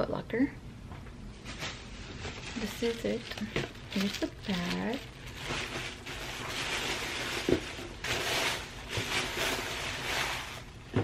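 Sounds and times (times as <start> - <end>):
plastic bag rustling: 1.3 - 11.0.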